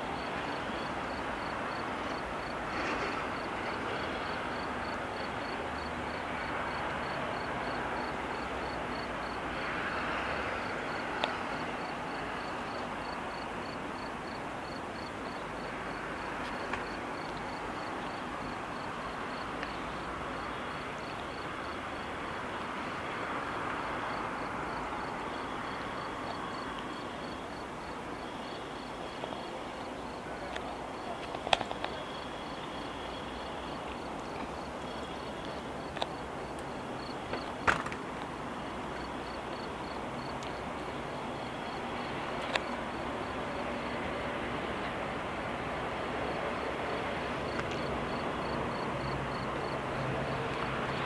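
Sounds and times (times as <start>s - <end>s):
outdoor background hiss: 0.0s - 51.0s.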